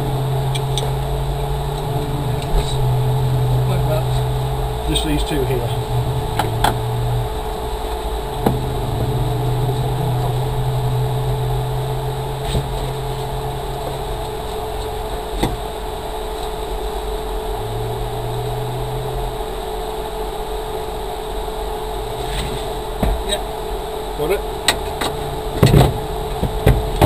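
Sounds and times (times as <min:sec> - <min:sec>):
engine idling hum: 0:00.0 - 0:27.0
low drone: 0:00.0 - 0:27.0.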